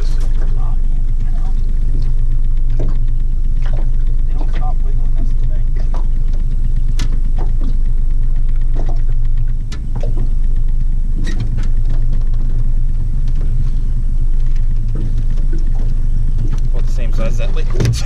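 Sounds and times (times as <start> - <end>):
boat motor droning: 0.0 - 18.0
sharp knocks and clatter: 0.0 - 18.0.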